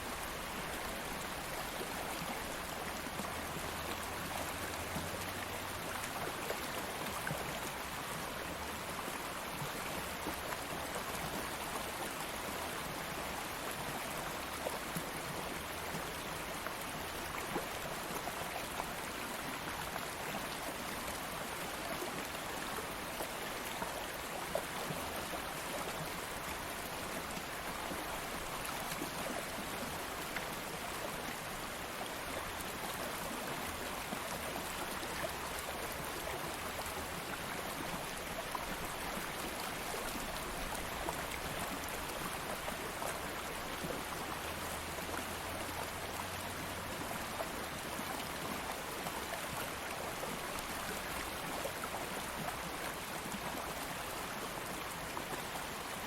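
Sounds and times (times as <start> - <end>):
stream of flowing water: 0.0 - 56.0.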